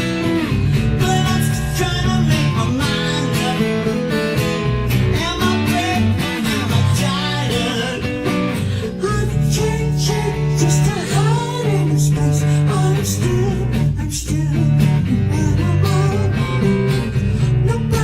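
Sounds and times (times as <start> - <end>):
guitar-led music with steady beat: 0.0 - 18.0.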